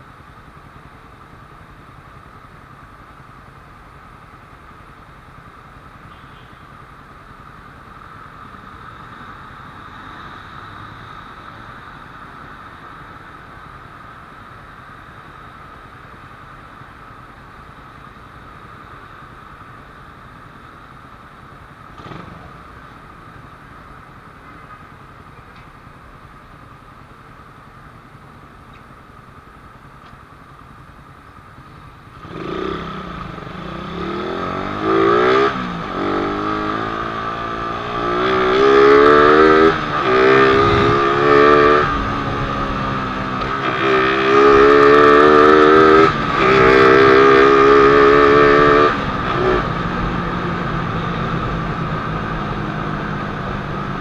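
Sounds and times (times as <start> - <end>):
motorcycle engine idling and accelerating: 0.0 - 54.0.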